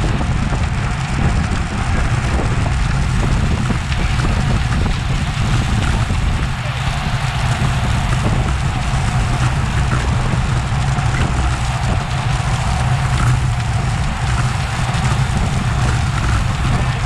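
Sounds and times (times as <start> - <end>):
wind rumbling over microphone: 0.0 - 17.0
tyres hissing on road: 0.3 - 17.0.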